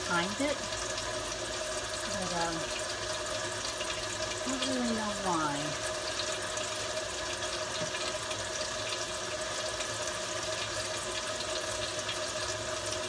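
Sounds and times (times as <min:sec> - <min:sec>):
faucet running water: 0:00.0 - 0:13.0.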